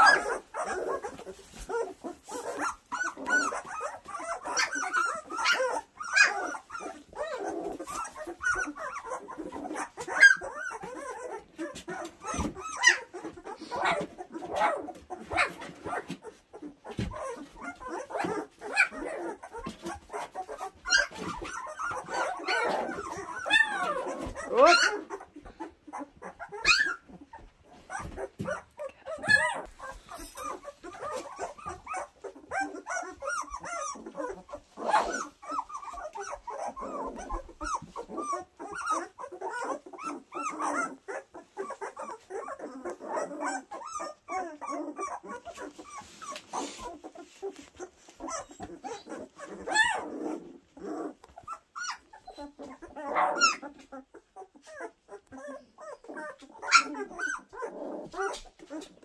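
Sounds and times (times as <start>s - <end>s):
puppies whimpering and squeaking: 0.0s - 59.0s.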